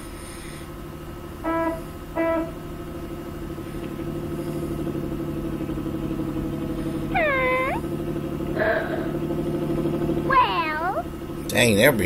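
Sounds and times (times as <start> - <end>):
cartoon bus engine chugging: 0.0 - 12.0
horn honks: 1.2 - 11.7.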